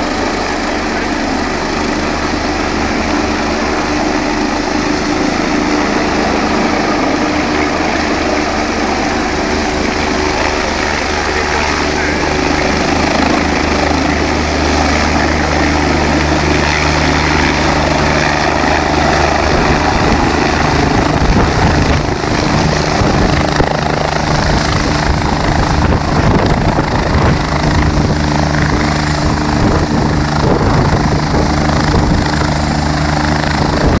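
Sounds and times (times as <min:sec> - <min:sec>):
helicopter rotor and engine noise: 0:00.0 - 0:34.0.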